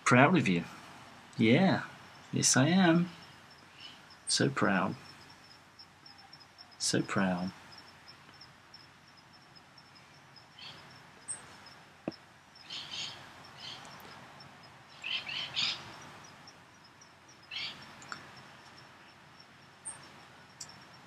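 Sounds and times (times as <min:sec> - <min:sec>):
faint bird chirps: 0:00.2 - 0:21.0.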